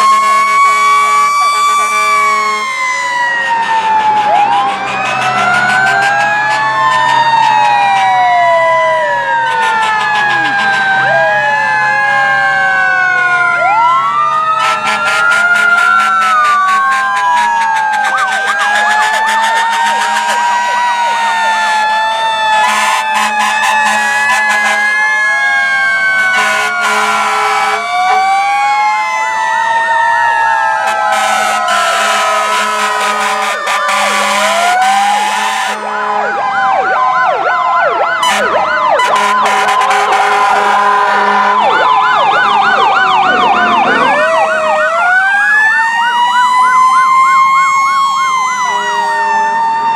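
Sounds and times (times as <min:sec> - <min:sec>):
fire truck sirens wailing: 0:00.0 - 0:49.9.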